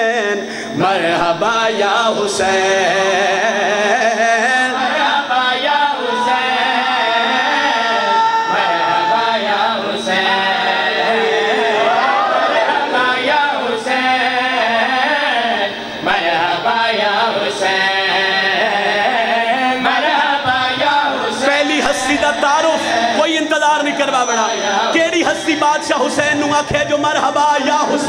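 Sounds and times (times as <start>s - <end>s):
men singing unaccompanied: 0.0s - 28.0s.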